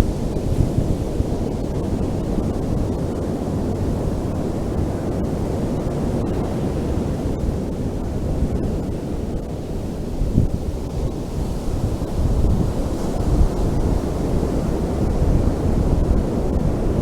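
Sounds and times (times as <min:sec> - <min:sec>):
ocean waves washing on beach: 0:00.0 - 0:17.0
wind buffeting microphone: 0:00.0 - 0:17.0.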